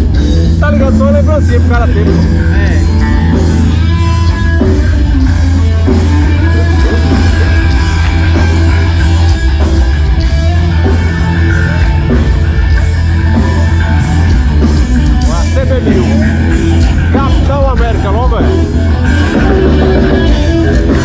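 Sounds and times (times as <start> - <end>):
electric guitar: 0.0 - 21.0
heavy bass: 0.0 - 21.0
loud rock music: 0.0 - 21.0.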